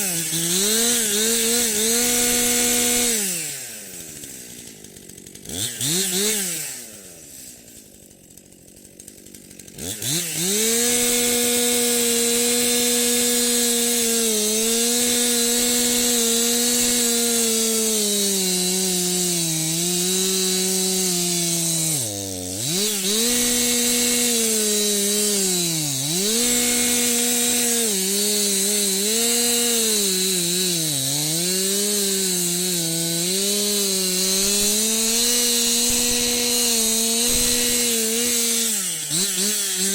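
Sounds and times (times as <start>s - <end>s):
chainsaw revving and whining: 0.0s - 39.9s.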